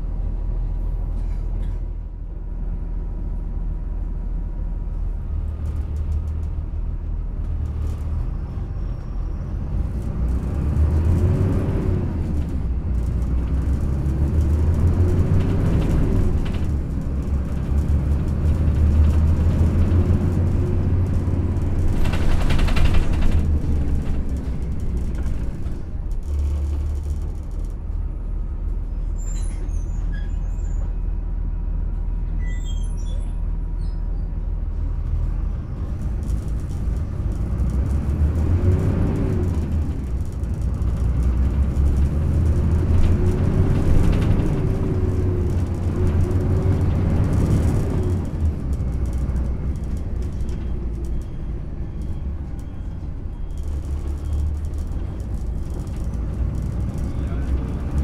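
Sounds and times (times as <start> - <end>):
bus engine rumbling: 0.0 - 58.0.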